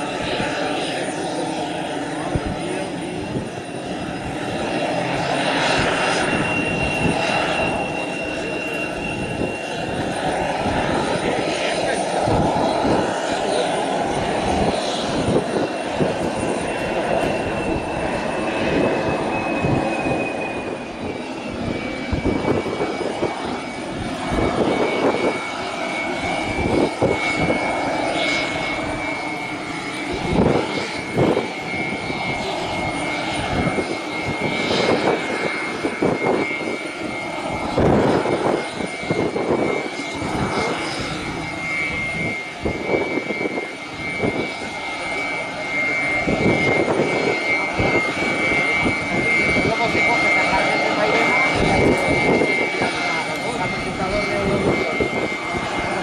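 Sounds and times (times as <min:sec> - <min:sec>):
gusts of noise: 0:00.0 - 0:56.0
turboprop engine whine: 0:00.0 - 0:56.0.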